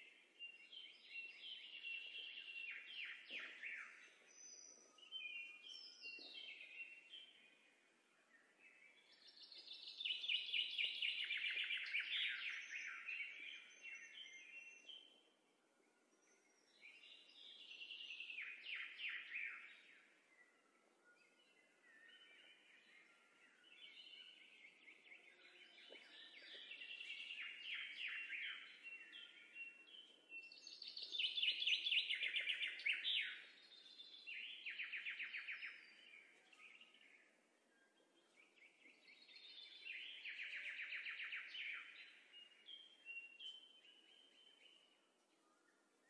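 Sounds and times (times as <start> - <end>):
songbirds chirping and trilling: 0.0 - 46.0.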